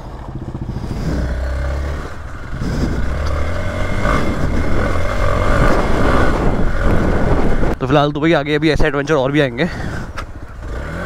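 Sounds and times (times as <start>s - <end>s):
motorcycle engine running off-road: 0.0s - 11.0s.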